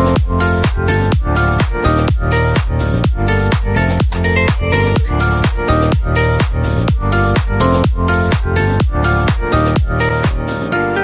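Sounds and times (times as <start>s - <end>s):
electronic dance music: 0.0s - 10.7s.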